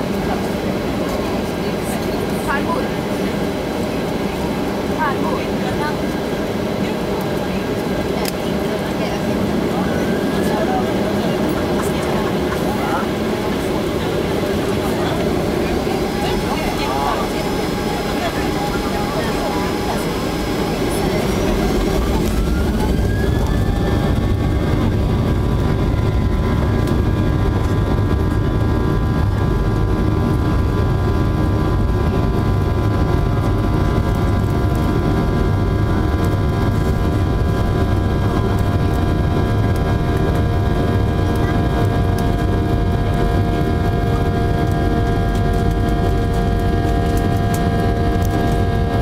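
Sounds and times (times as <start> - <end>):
jet engines heard from cabin: 0.0 - 49.0.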